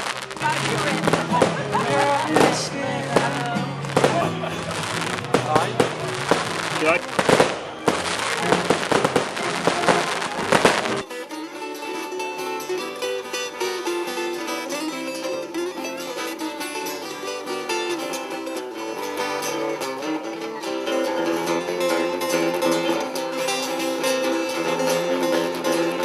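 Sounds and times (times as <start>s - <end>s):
plucked acoustic guitar: 0.0s - 26.0s.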